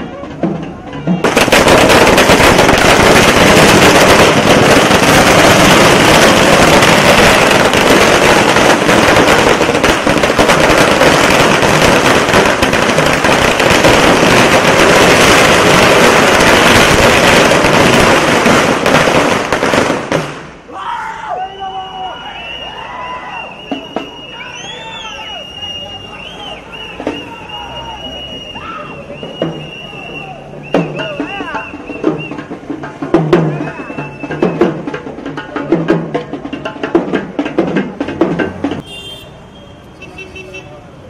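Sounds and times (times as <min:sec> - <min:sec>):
firecrackers crackling: 0:00.1 - 0:20.8, 0:23.3 - 0:39.2.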